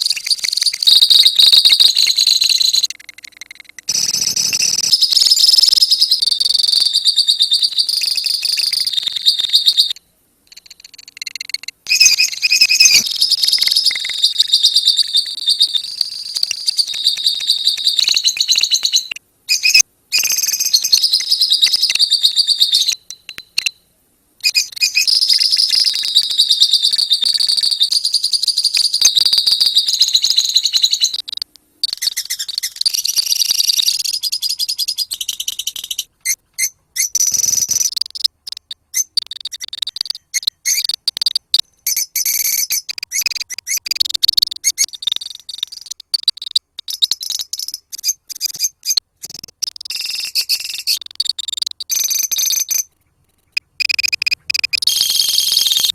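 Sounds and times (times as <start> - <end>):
lovebirds chattering: 0.0 - 23.8, 24.4 - 55.9.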